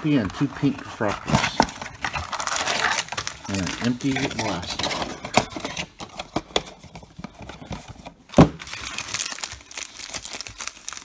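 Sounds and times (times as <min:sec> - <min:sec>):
foil wrappers crinkling: 0:00.0 - 0:06.1, 0:06.8 - 0:11.0.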